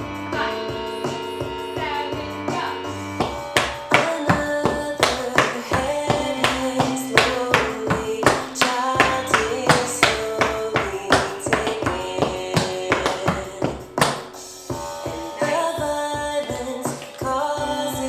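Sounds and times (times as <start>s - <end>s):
song with singing voice: 0.0s - 18.0s
tap shoes on wooden floor: 3.2s - 17.8s.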